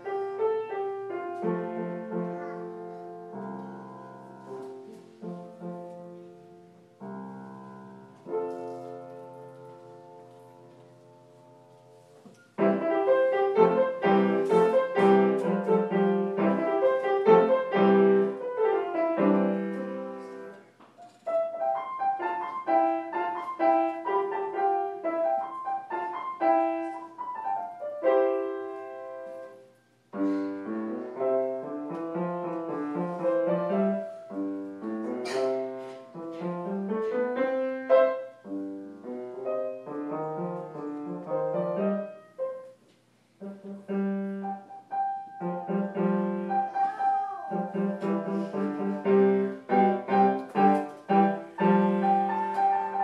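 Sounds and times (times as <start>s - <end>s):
solo grand piano piece: 0.0s - 53.0s.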